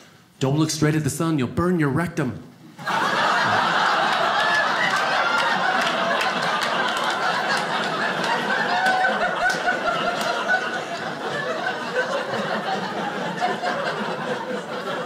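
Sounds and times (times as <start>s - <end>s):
audience laughing: 2.8s - 15.0s.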